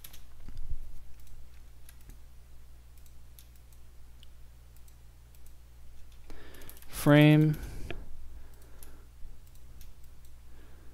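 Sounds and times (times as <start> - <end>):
computer mouse clicks: 0.0 - 2.2, 2.9 - 10.4
steady low hum: 0.0 - 10.9.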